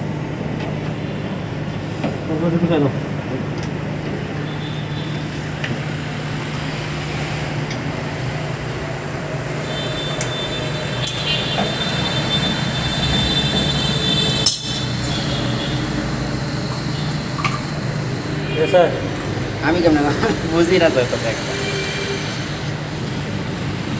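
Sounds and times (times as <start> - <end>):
machine humming: 2.9 - 23.9
high whine: 4.0 - 23.9.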